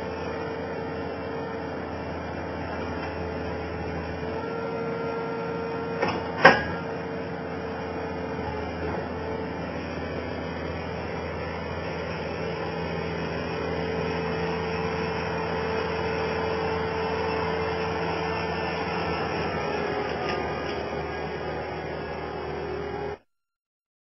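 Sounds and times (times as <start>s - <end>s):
loader engine droning: 0.0s - 23.2s.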